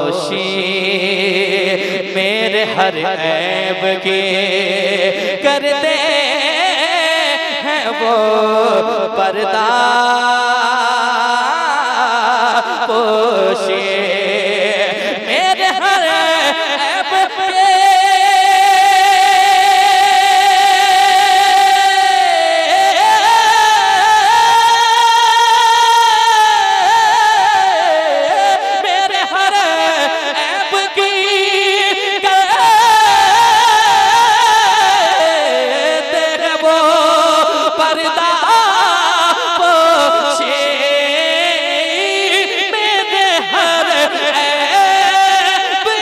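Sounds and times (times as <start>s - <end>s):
man singing into a microphone: 0.0s - 46.0s.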